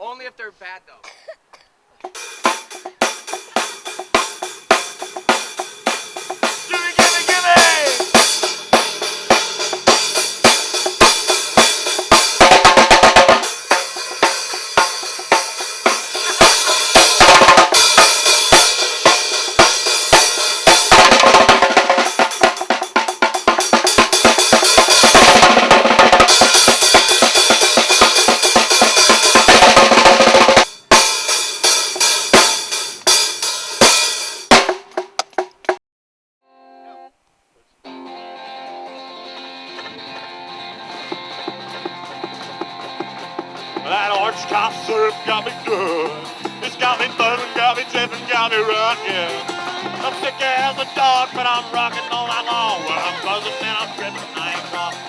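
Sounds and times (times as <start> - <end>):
drum kit beat: 2.0 - 35.8, 40.0 - 55.0.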